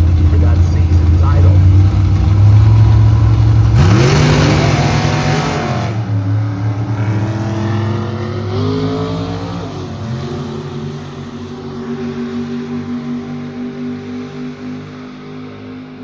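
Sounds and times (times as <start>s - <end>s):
drag race car accelerating: 0.0s - 16.0s.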